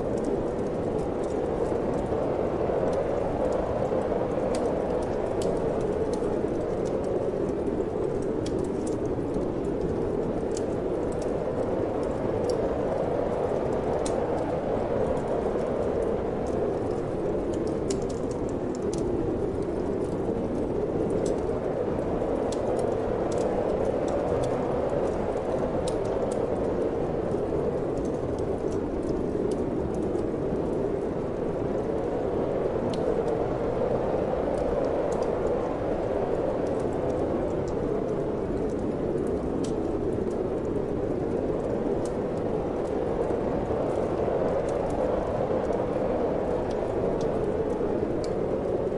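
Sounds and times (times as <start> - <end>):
wind blowing: 0.0 - 48.9
wood fire crackling: 0.0 - 48.9.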